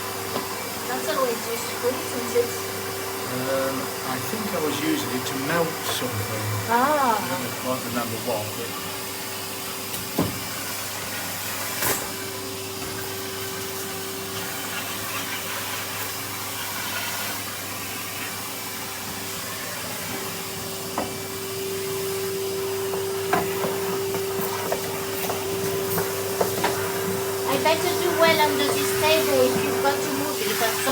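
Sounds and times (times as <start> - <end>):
vacuum cleaner motor whine: 0.0 - 30.9.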